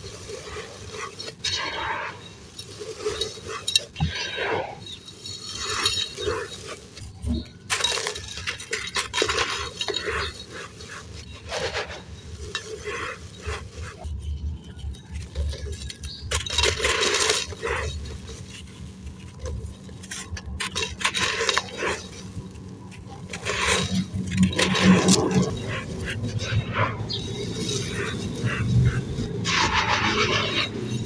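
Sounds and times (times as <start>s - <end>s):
sand crunching and crackling: 0.0s - 31.0s.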